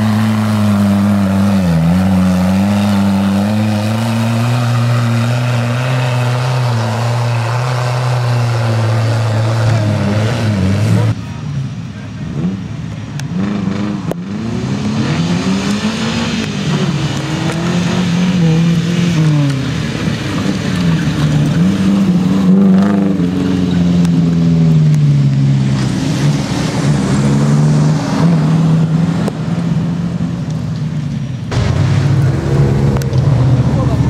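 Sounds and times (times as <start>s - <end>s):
off-road vehicle engines revving: 0.0s - 34.0s.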